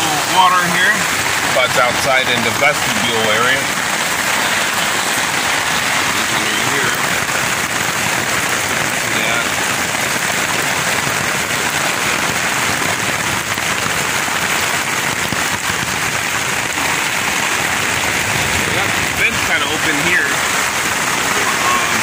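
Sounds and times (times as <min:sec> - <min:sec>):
heavy rain on tent fabric: 0:00.0 - 0:22.0.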